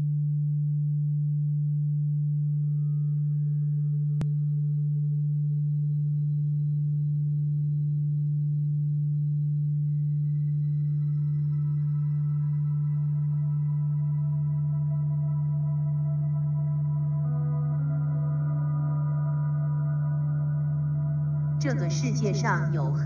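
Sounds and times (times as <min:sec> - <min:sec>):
ambient music drone: 0:02.1 - 0:23.0.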